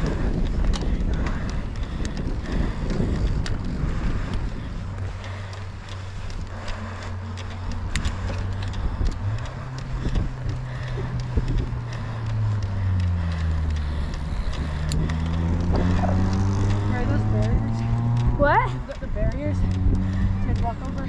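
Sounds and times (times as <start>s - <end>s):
bike clicks and rattles: 0.0s - 21.0s
bike tyres rolling: 0.0s - 21.0s
wind buffeting microphone: 0.0s - 21.0s.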